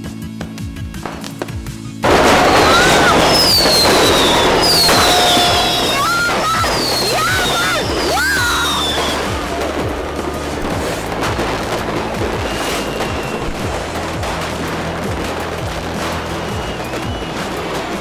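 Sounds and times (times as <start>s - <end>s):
music with bass tones: 0.0s - 18.0s
fireworks banging: 0.4s - 18.0s
firework whistle: 2.0s - 9.9s, 10.5s - 18.0s.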